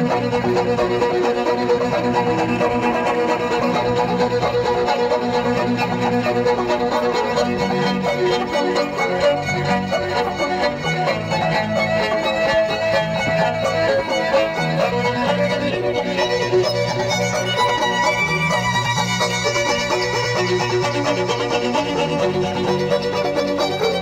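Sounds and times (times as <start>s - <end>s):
violin melody: 0.0s - 24.0s.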